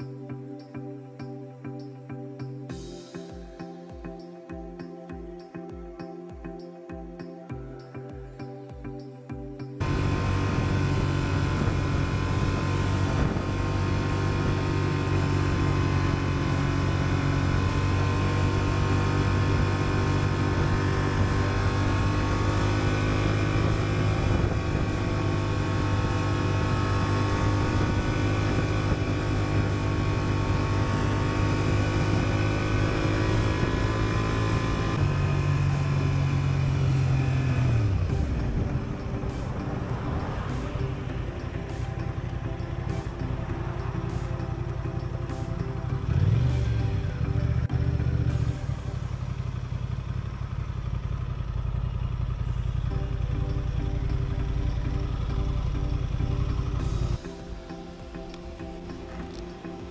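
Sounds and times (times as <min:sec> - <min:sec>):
wind and road noise: 0:09.7 - 0:59.9
motorcycle engine running: 0:09.8 - 0:59.9.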